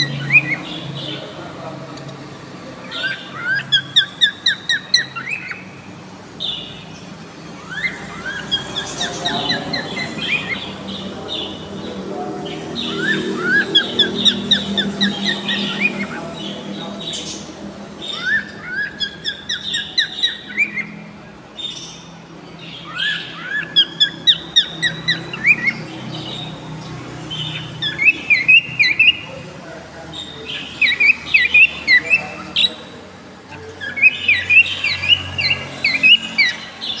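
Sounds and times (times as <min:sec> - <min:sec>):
cockatiels chirping: 0:00.0 - 0:37.0.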